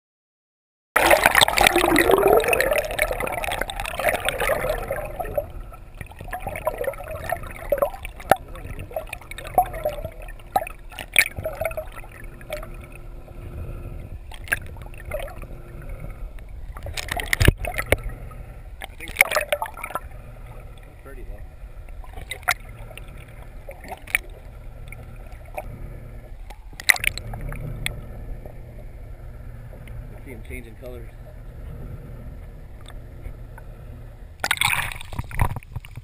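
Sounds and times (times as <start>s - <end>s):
faint low hum: 1.0s - 36.0s
muffled water movement: 1.0s - 36.0s
underwater rush of bubbles: 1.0s - 36.0s.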